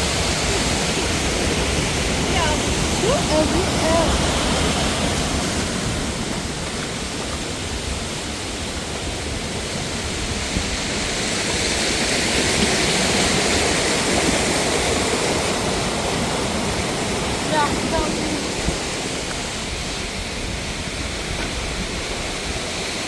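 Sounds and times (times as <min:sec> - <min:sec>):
waterfall rushing over rocks: 0:00.0 - 0:23.0.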